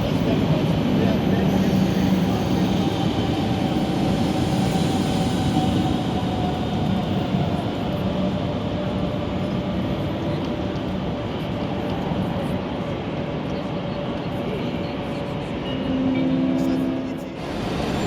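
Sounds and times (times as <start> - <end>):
train wheels and machinery: 0.0 - 15.8.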